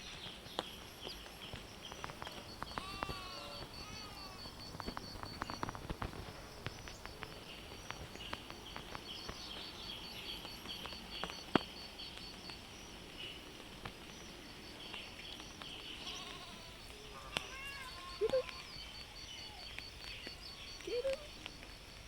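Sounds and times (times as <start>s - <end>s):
bird chirps: 0.0s - 13.5s, 14.1s - 21.5s
light ticks: 0.5s - 22.0s
insect chirping in high pulse: 0.8s - 22.0s.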